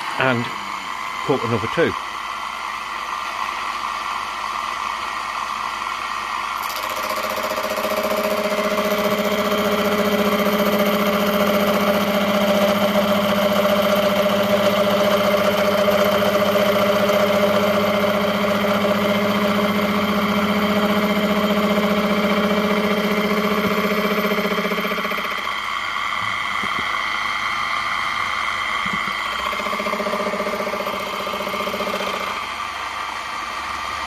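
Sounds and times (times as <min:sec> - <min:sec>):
milling machine motor hum: 0:00.0 - 0:34.0.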